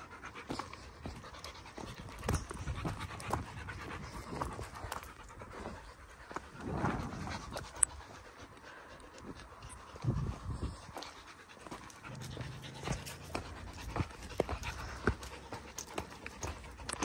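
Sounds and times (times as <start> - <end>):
dog panting: 0.0 - 17.0
footsteps on stony path: 0.2 - 17.0.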